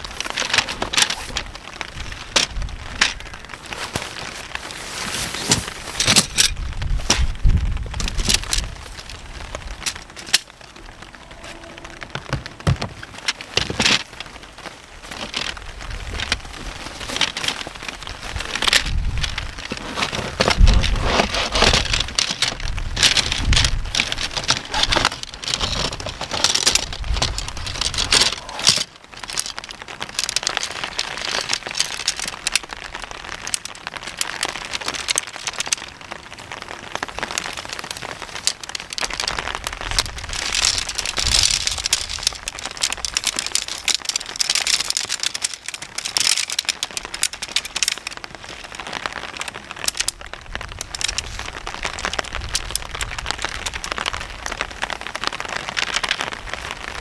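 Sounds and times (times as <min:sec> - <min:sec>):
rain pattering on paving: 0:00.0 - 0:04.9, 0:05.6 - 0:57.0
tent poles clinking: 0:00.0 - 0:57.0.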